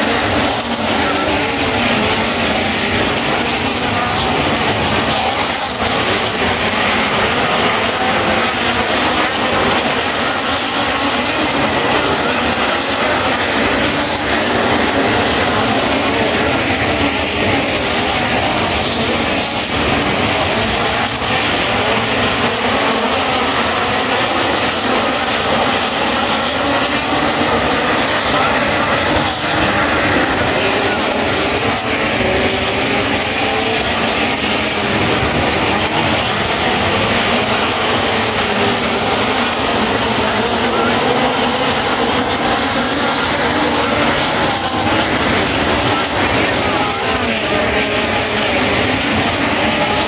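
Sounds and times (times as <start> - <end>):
race car engines blaring: 0.0 - 50.0.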